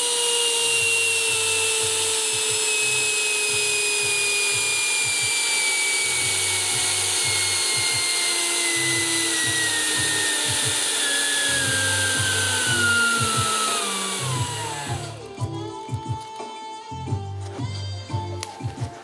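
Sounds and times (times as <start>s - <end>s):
electric ducted fan whine: 0.0s - 15.4s.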